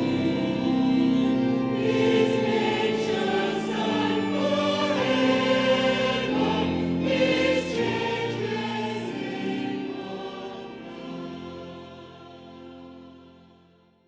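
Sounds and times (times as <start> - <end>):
choir singing a hymn: 0.0 - 13.9.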